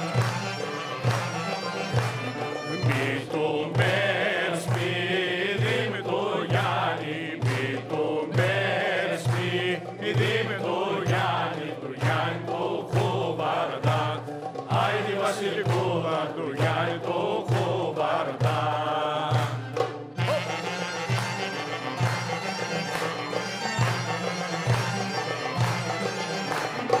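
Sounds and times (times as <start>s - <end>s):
instrumental accompaniment: 0.0s - 27.0s
men singing folk song: 0.0s - 27.0s
people clapping: 0.0s - 27.0s.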